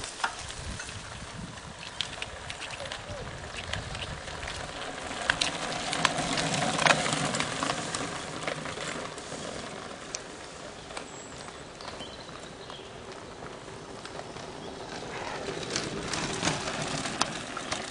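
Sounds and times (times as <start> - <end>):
bike clicks: 0.0 - 17.9
bike tyres crunching over gravel: 0.0 - 17.9.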